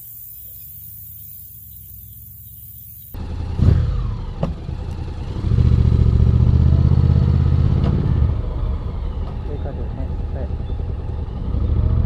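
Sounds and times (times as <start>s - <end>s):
motorcycle engine revving: 0.7s - 12.0s.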